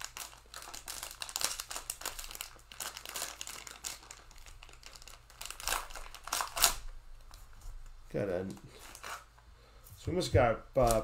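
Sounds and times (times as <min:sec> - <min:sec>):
plastic wrapper crinkling: 0:00.0 - 0:09.4, 0:10.8 - 0:11.0.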